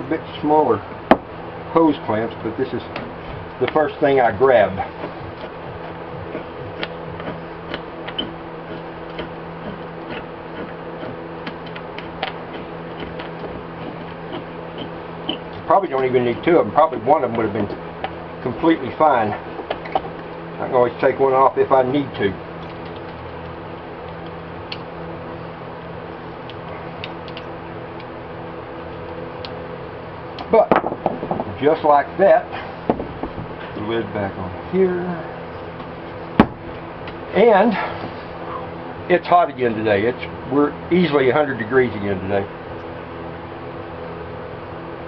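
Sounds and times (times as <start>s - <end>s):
steady background hum: 0.0s - 45.0s.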